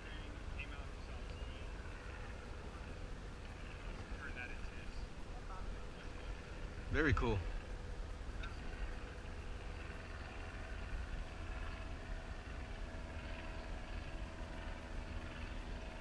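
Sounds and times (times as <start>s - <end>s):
faint distant motor hum: 0.0s - 16.0s.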